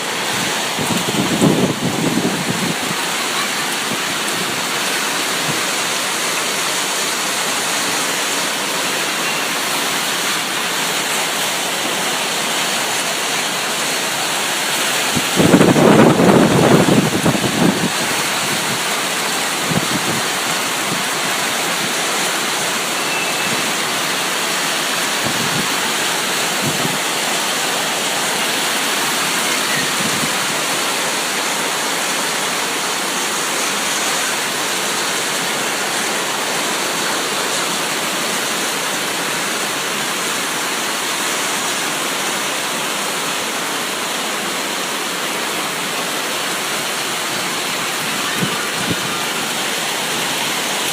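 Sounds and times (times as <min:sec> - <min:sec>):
heavy rain hiss: 0:00.0 - 0:50.9.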